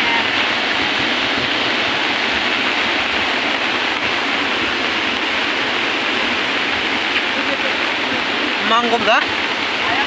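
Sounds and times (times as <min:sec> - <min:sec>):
flood torrent rushing: 0:00.0 - 0:10.0.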